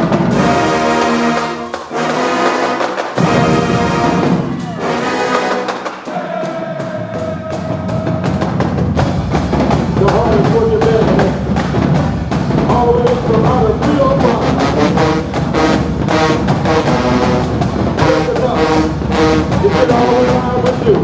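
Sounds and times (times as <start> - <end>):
drums keeping steady beat: 0.0 - 21.0
marching band playing: 0.0 - 21.0.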